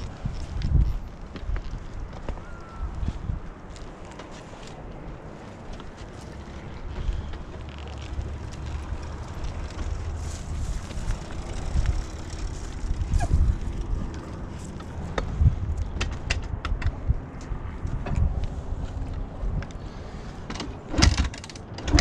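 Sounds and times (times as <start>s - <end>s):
dirt bike engine rumble: 0.0s - 22.0s.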